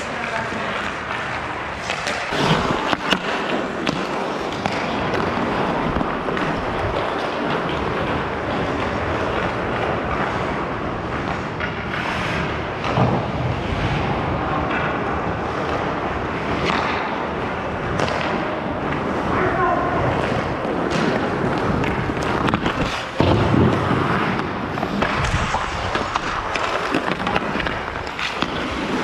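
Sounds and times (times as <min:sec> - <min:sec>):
hockey sticks and puck clacking: 0:00.0 - 0:29.0
skate blades scraping ice: 0:00.0 - 0:29.0.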